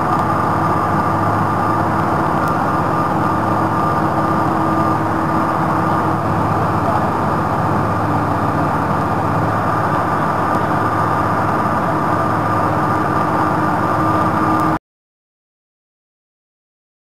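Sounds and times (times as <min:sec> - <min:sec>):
heavy engine running: 0:00.0 - 0:14.8
high whine: 0:00.0 - 0:14.8.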